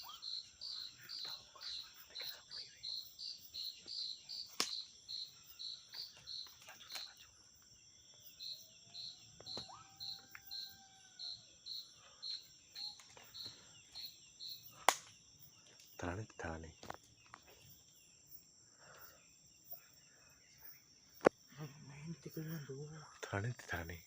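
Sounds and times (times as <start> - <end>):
high insect drone: 0.0 - 24.0
insect chirping: 0.0 - 24.0.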